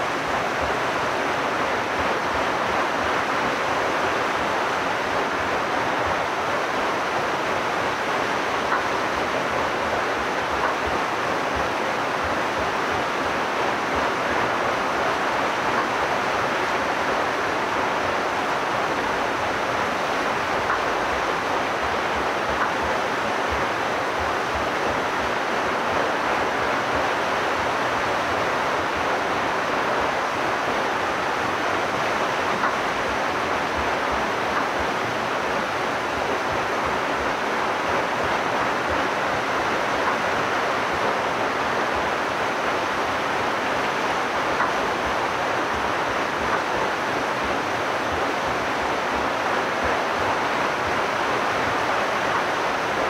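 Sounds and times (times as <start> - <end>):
water rushing through mill wheel: 0.0 - 53.0.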